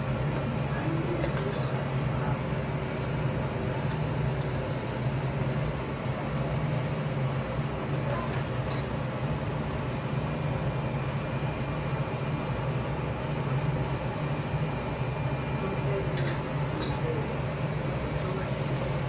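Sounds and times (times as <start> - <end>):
faint sizzle: 0.0 - 19.0
steady low hum: 0.0 - 19.0.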